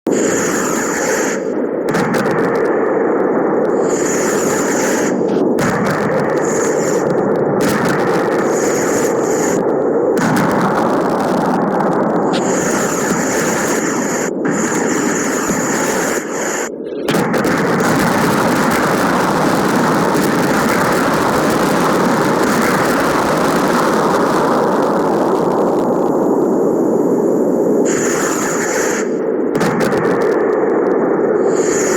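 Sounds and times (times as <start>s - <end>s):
firework hissing: 0.1s - 30.2s, 31.4s - 31.9s.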